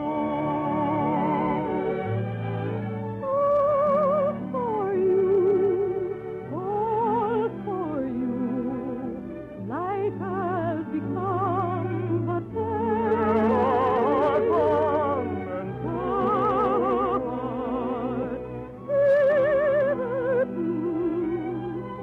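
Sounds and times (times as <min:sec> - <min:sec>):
orchestra playing operetta music: 0:00.0 - 0:22.0.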